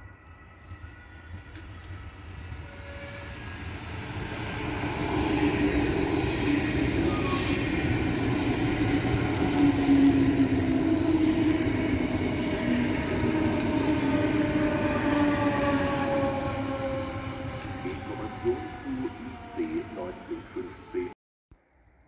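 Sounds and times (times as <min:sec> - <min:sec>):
freight train passing: 0:00.0 - 0:21.8.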